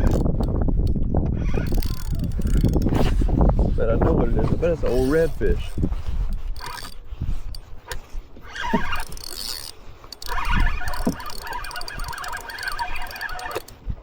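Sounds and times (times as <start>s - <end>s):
fishing reel whirring: 1.4s - 13.9s.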